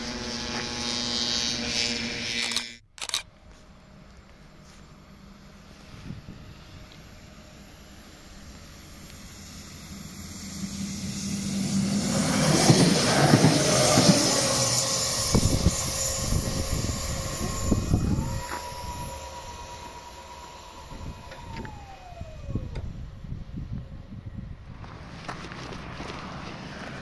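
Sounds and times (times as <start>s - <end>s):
barrier motor electric whine: 0.0s - 27.0s
passenger train passing: 3.7s - 27.0s.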